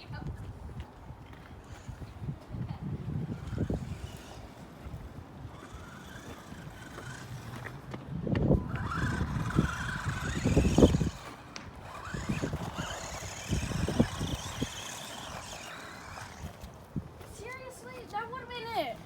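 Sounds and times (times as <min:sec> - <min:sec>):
electric motor whining: 0:01.5 - 0:17.4.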